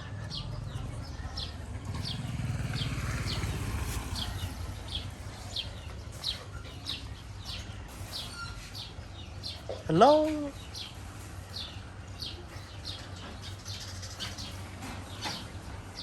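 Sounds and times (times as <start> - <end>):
bird chick chirping: 0.0 - 16.0.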